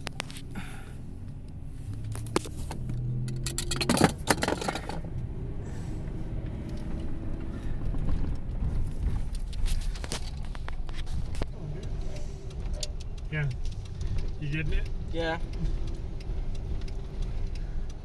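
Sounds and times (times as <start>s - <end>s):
vehicle road noise: 0.0s - 18.0s.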